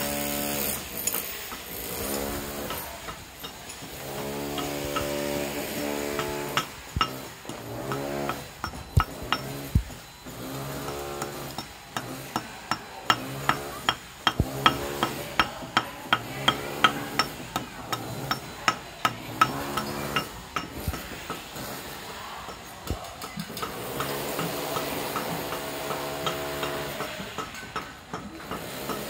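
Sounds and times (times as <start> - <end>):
hammer striking concrete: 1.8 - 21.8, 22.5 - 29.0.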